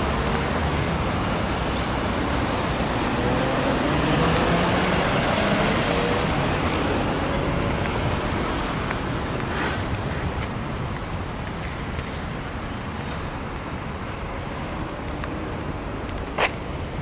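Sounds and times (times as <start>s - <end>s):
bus engine pulling by: 0.0s - 17.0s
cars passing: 0.0s - 17.0s.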